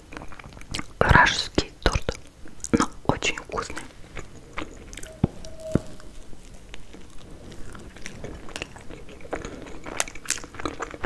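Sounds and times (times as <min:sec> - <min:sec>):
chewing crisp pastry: 0:00.0 - 0:11.0.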